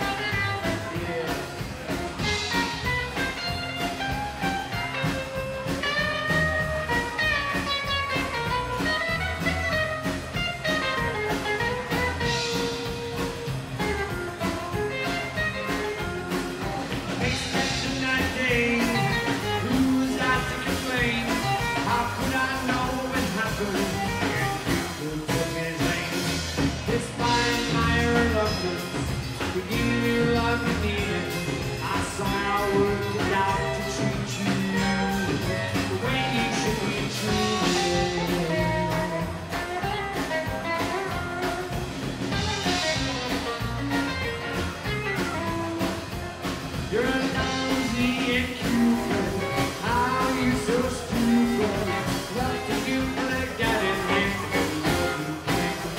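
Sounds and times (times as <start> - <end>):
man singing: 0.0 - 8.5, 14.4 - 41.6, 46.7 - 55.9
double bass: 0.0 - 55.9
drum kit: 0.0 - 55.9.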